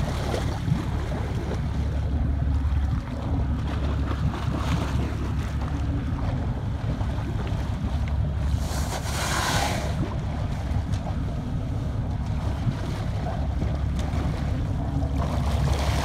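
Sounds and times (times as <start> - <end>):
water splashing against boat: 0.0 - 16.0.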